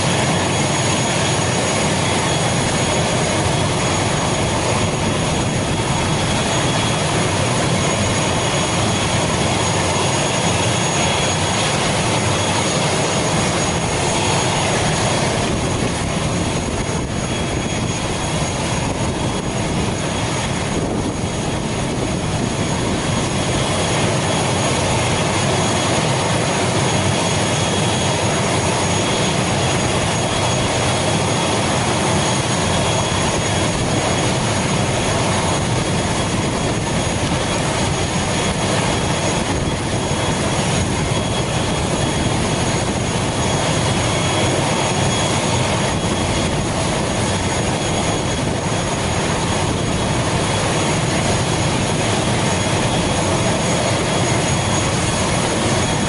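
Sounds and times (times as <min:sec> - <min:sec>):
turboprop engine idling with whine: 0:00.0 - 0:56.0.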